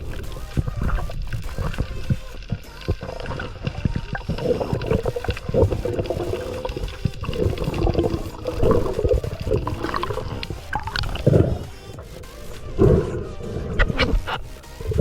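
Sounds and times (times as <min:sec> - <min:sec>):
underwater gurgling and sloshing: 0:00.0 - 0:15.0
wavering underwater tone: 0:00.0 - 0:15.0.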